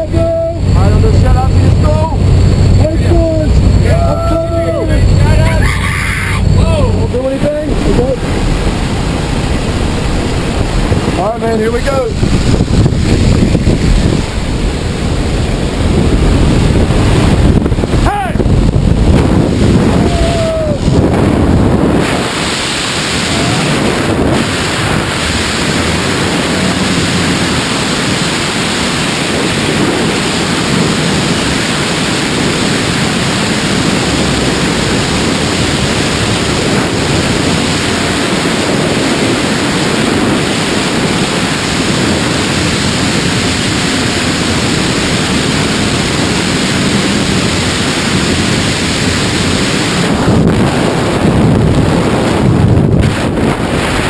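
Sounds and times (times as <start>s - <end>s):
loud wind rush on microphone: 0.0s - 54.0s.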